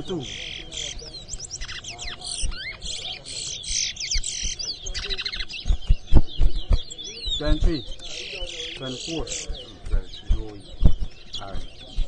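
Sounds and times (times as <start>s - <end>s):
finches singing whistles and trills: 0.0s - 12.0s.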